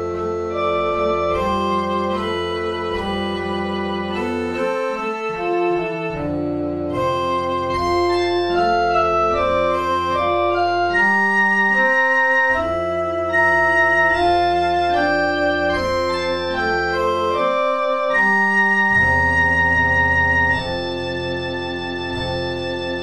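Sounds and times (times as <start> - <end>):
slow organ music: 0.0 - 23.0.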